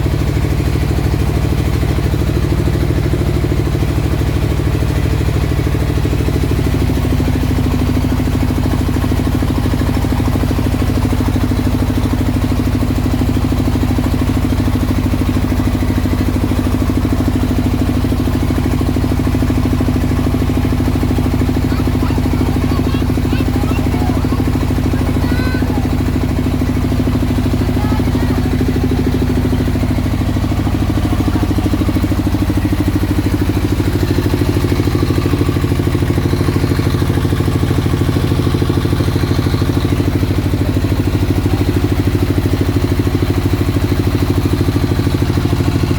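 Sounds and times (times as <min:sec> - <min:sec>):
single-cylinder engine running: 0:00.0 - 0:45.9.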